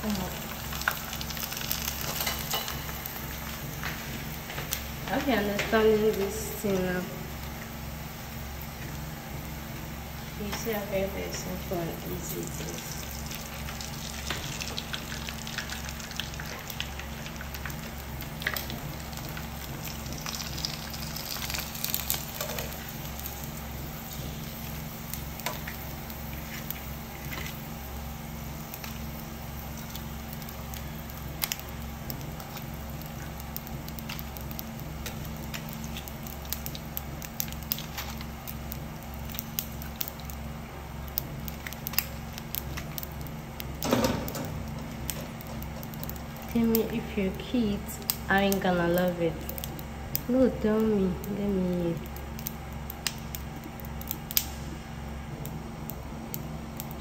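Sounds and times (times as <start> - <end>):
hot oil sizzling in a pan: 0.0 - 57.0
steady low hum: 0.0 - 57.0.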